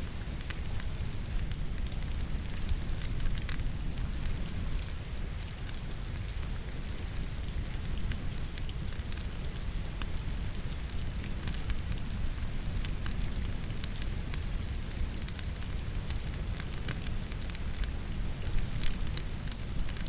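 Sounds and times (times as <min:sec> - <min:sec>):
logs crackling in fireplace: 0:00.0 - 0:20.0
rain hissing: 0:00.0 - 0:20.0.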